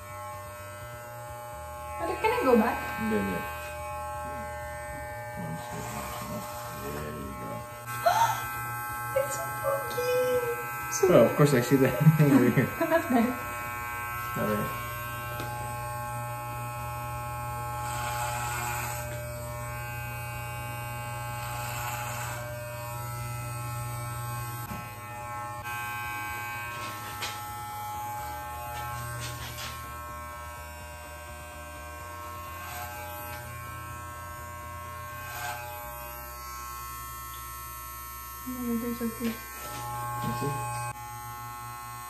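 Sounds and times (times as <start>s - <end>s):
electric hair clipper buzzing: 0.0s - 42.0s.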